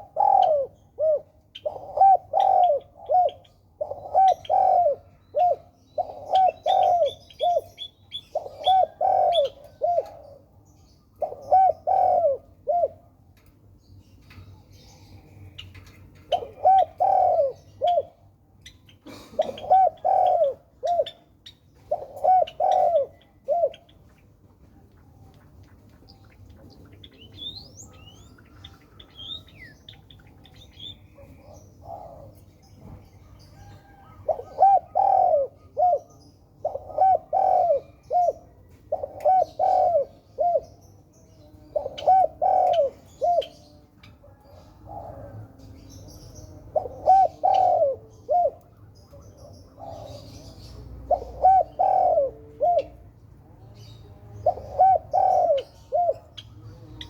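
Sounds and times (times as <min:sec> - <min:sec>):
dove cooing: 0:00.0 - 0:13.5, 0:14.6 - 0:24.2, 0:26.1 - 0:57.0.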